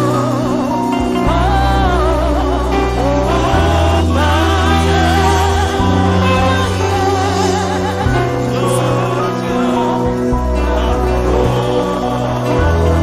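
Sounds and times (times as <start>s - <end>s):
sustained bass notes: 0.0s - 13.0s
woman singing with vibrato: 0.0s - 13.0s.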